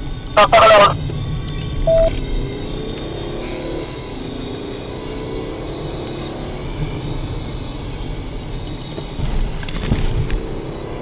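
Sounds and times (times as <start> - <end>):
car engine: 0.0 - 11.0
tyre noise on road: 0.0 - 11.0.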